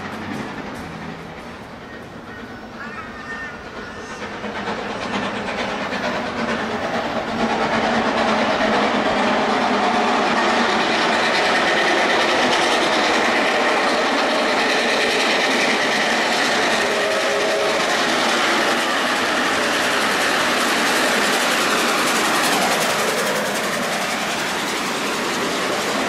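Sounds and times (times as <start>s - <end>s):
steam locomotive exhaust: 0.0s - 26.0s
wheels on rail: 0.0s - 26.0s.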